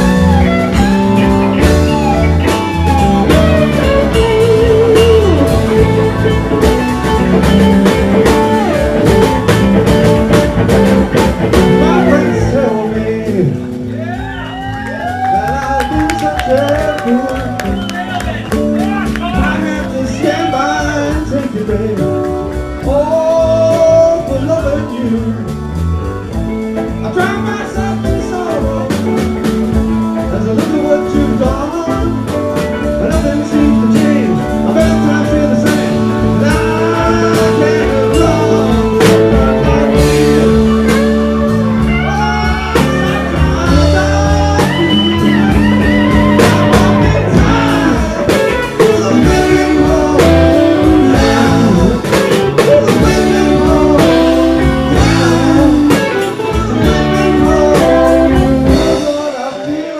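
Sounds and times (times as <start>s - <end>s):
blues rock band playing: 0.0s - 59.9s
electric guitar: 0.0s - 59.9s.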